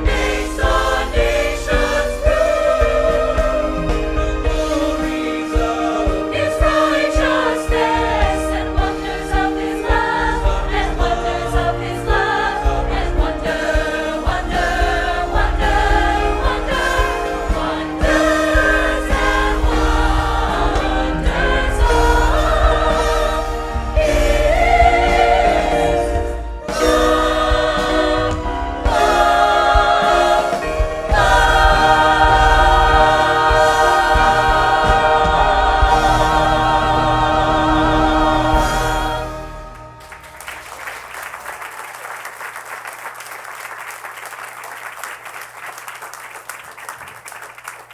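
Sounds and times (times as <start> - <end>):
choir singing: 0.0 - 40.8
instrumental accompaniment: 0.0 - 41.2.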